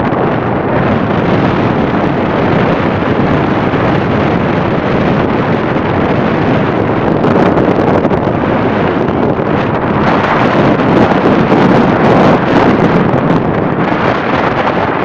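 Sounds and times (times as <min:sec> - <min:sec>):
vehicle and road noise: 0:00.0 - 0:15.0
wind buffeting microphone: 0:00.0 - 0:15.0.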